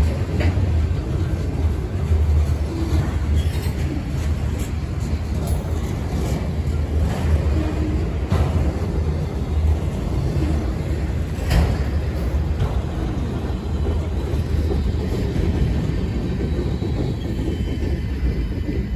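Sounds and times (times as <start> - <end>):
freight train rumbling past: 0.0 - 18.9.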